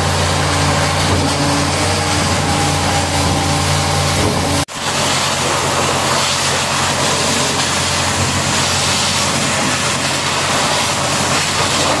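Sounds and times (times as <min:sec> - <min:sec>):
high-pressure water jet hissing: 0:00.0 - 0:12.0
low machine hum: 0:00.0 - 0:12.0.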